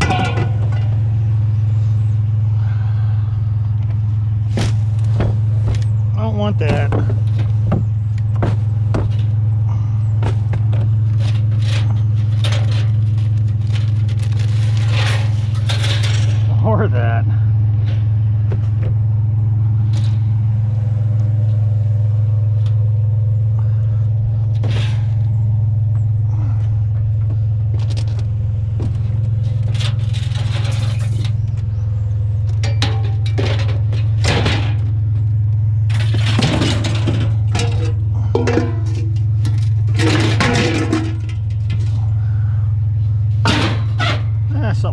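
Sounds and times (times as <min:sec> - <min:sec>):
junk knocking and clattering: 0:00.0 - 0:02.3, 0:03.7 - 0:17.0, 0:17.6 - 0:44.6
vehicle engine idling: 0:00.0 - 0:44.9.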